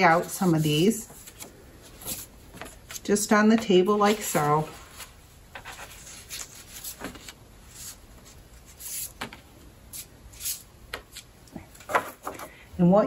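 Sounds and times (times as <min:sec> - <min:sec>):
paper rustling: 0:00.0 - 0:12.6.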